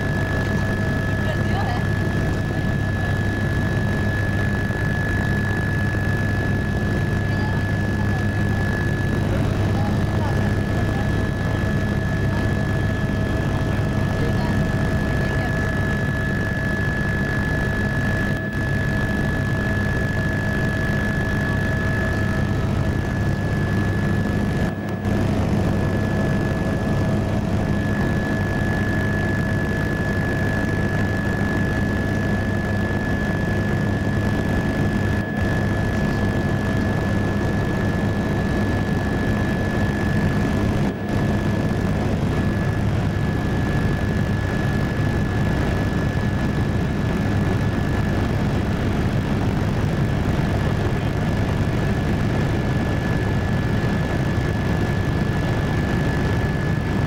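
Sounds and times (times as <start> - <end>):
helicopter rotor and engine drone: 0.0 - 57.0
high steady whine: 0.0 - 57.0.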